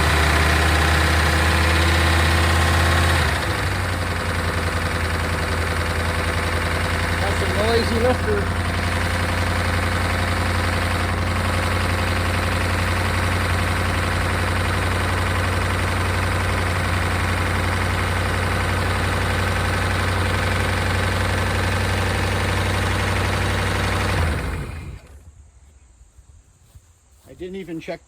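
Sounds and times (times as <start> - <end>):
car engine idling with noisy lifters: 0.0 - 25.2.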